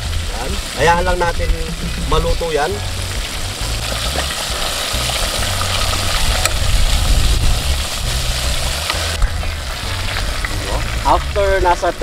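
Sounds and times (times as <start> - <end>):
low rumble: 0.0 - 11.4
chicken deep-frying in oil: 0.0 - 12.0.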